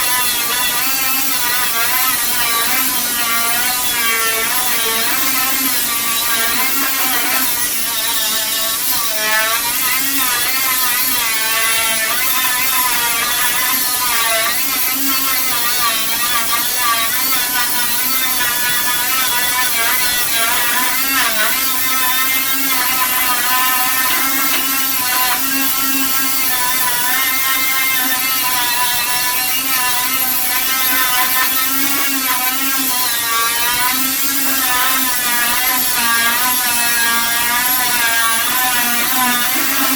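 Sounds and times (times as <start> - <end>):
abrasive stripping tool on metal panel: 0.0 - 39.9.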